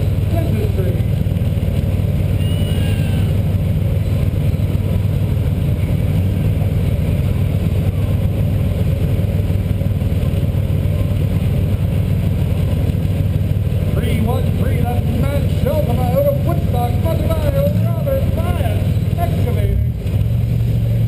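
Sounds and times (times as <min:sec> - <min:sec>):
car engine running inside cabin: 0:00.0 - 0:21.0.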